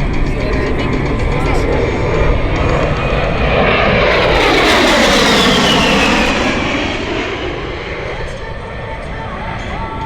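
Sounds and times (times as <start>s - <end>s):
jet passing by: 0.0s - 10.0s.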